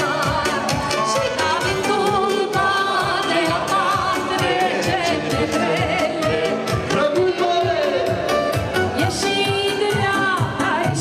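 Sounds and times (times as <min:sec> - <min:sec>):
woman singing: 0:00.0 - 0:06.8, 0:08.9 - 0:11.0
keyboard accompaniment: 0:00.0 - 0:11.0
live band playing dance music: 0:00.0 - 0:11.0.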